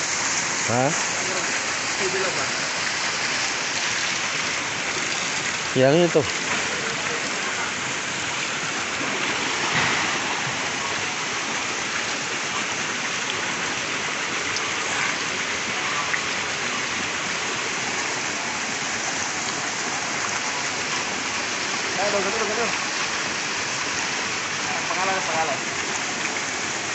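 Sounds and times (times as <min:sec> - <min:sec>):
fountain water splashing into pool: 0:00.0 - 0:26.9.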